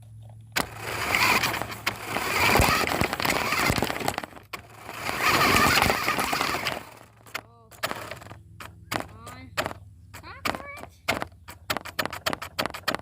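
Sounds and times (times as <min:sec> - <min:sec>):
rc car motor and wheels: 0:00.5 - 0:13.0.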